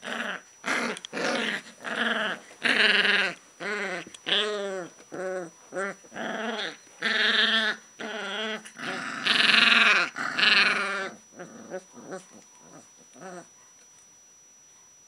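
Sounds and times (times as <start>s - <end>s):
puppies whining: 0.0s - 13.8s.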